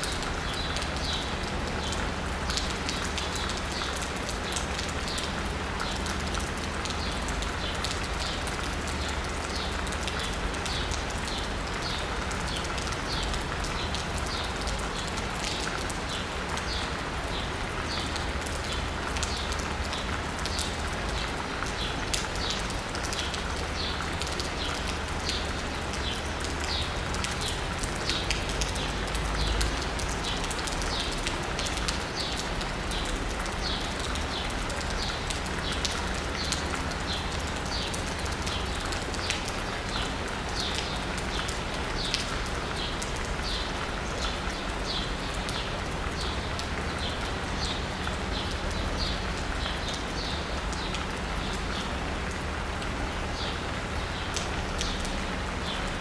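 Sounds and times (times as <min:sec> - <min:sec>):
low rumble of city traffic: 0:00.0 - 0:56.0
rain pattering on asphalt: 0:00.0 - 0:56.0.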